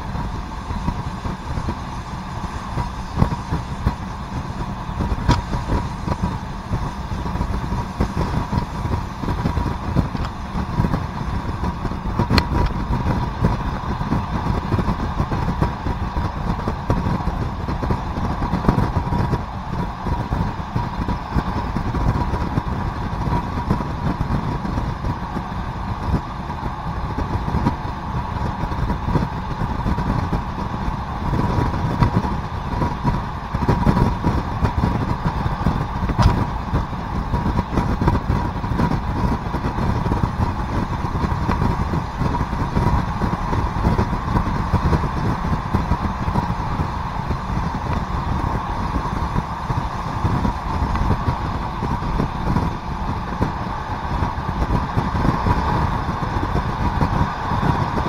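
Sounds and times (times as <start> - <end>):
faint steady whine: 0.0 - 58.0
railcar engine and wheels rumbling: 0.0 - 58.0.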